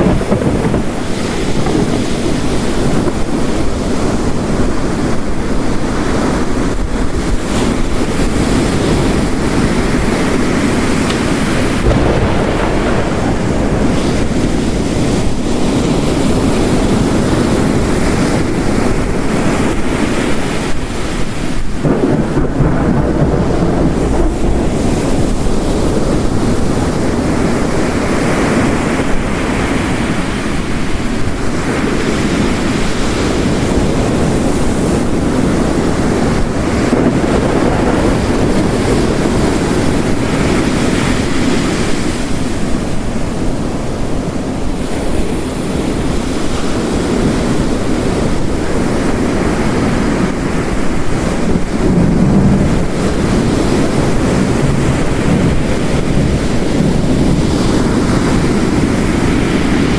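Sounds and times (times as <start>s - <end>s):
distant thunder rumble: 0.0s - 30.2s, 33.1s - 43.7s, 50.2s - 59.9s
heavy rain: 0.0s - 59.9s
ocean waves crashing: 0.0s - 59.9s.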